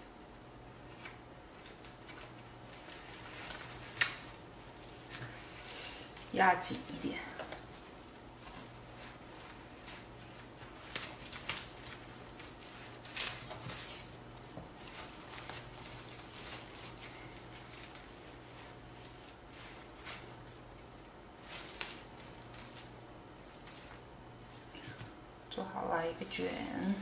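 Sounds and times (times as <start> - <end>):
faint low hum: 0.0 - 27.0
plastic wrap rustling and crinkling: 0.6 - 27.0.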